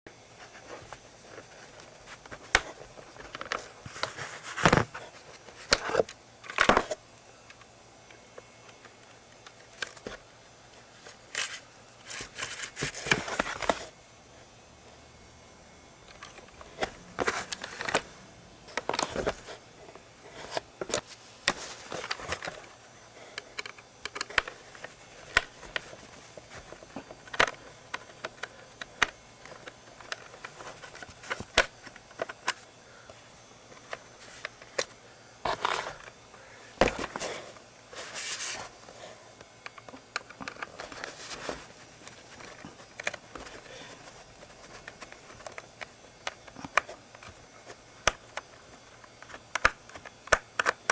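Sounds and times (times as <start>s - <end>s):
plastic parts clicking and scraping: 0.6s - 7.7s, 8.7s - 10.2s, 11.0s - 13.9s, 16.1s - 36.2s, 39.6s - 50.9s.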